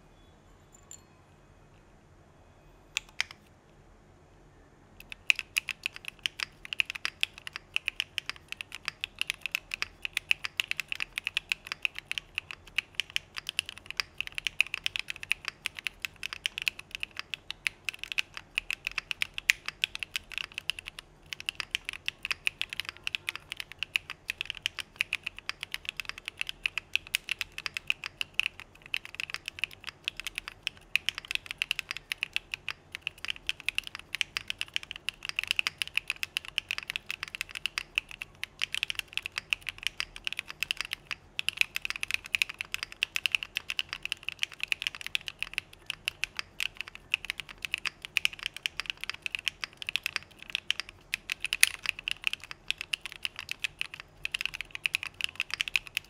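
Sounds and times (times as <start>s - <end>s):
fast mechanical keyboard typing: 3.0s - 3.4s, 5.0s - 56.0s.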